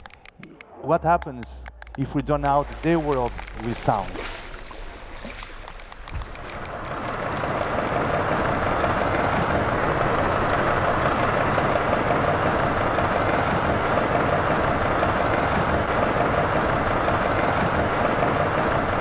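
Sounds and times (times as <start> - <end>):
rapid sharp clicks: 0.0 - 19.0
underwater engine drone: 0.0 - 19.0.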